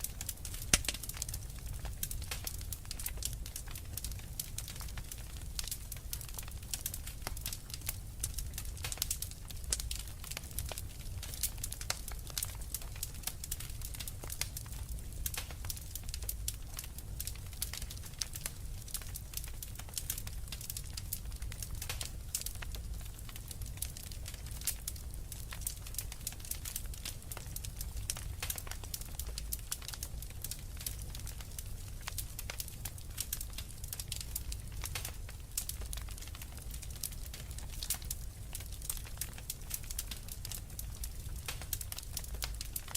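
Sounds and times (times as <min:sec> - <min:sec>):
low rumble of flames: 0:00.0 - 0:42.9
wood fire crackling: 0:00.0 - 0:42.9.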